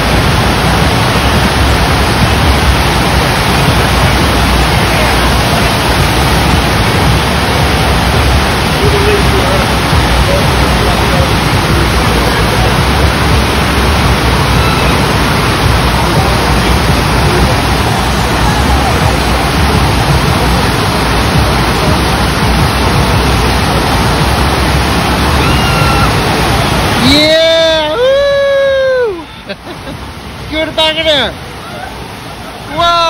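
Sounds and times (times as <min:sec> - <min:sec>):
water rushing over a slope: 0:00.0 - 0:33.0.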